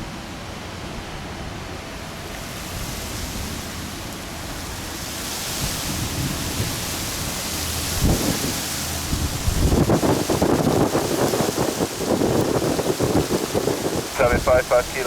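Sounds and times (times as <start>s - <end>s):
jet airliner engine hiss: 0.0s - 15.0s
wind buffeting microphone: 2.5s - 15.0s.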